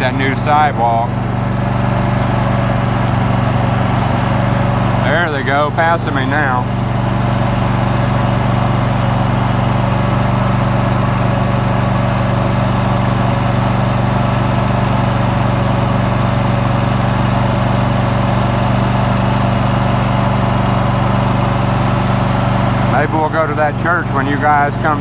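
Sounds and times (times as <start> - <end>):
riding lawn mower engine running: 0.0 - 25.0.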